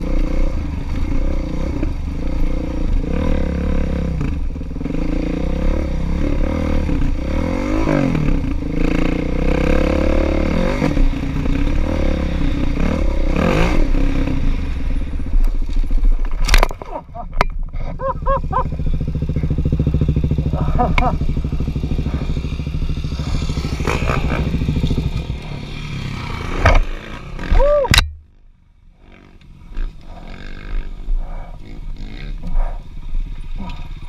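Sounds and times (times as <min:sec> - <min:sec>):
motorcycle engine revving: 0:00.0 - 0:15.6, 0:16.4 - 0:34.0.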